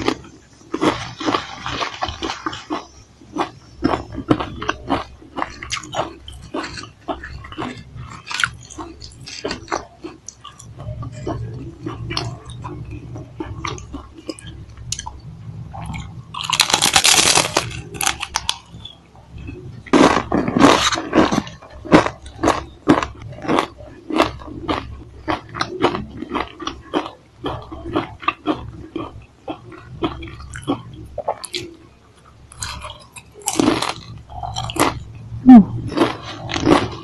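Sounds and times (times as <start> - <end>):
crunching potato crisps: 0.0 - 15.2, 15.8 - 35.1, 35.8 - 37.0.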